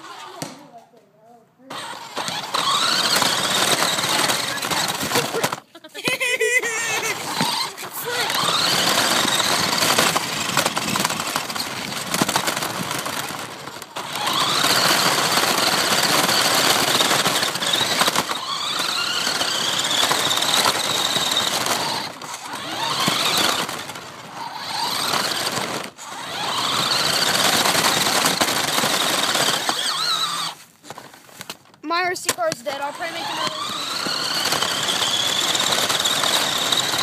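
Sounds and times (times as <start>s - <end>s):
electric motor whining: 0.0s - 0.6s, 1.7s - 31.1s, 32.4s - 37.0s
wheels and chassis rattling: 0.0s - 1.0s, 1.6s - 37.0s.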